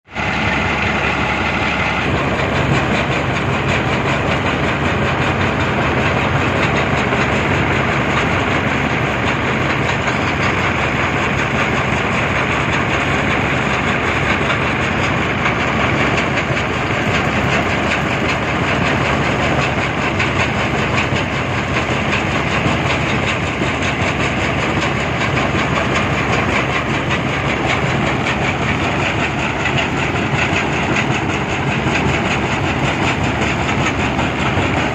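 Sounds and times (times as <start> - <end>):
low engine drone: 0.1 - 34.9
machine rattling clatter: 0.1 - 34.9.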